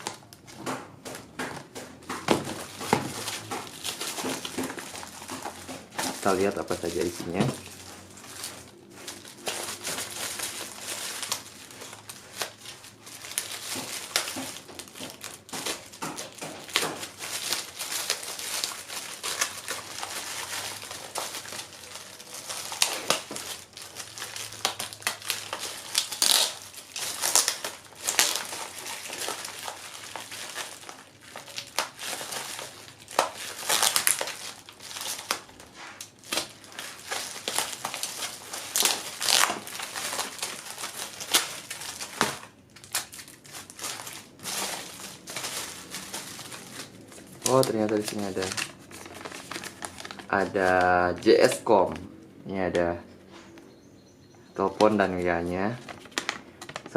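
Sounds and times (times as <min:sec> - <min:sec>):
plastic packaging crinkling: 0:00.0 - 0:52.8, 0:54.6 - 0:56.9.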